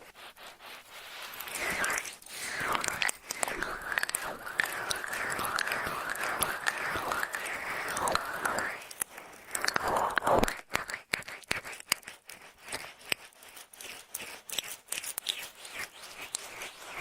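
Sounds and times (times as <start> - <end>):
ear pick scratching: 0.0 - 17.0.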